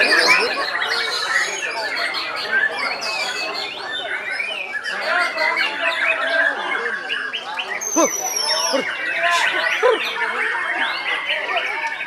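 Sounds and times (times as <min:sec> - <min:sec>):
songbirds singing in chorus: 0:00.0 - 0:12.0.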